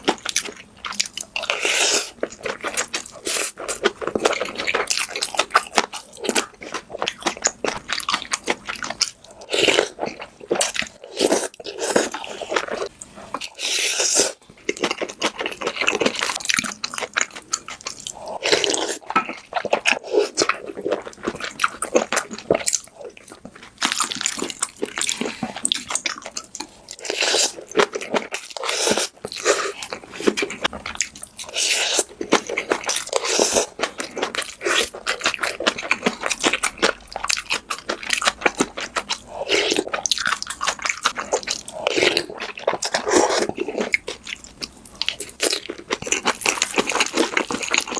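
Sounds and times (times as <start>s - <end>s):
person chewing and crunching food: 0.0s - 47.9s.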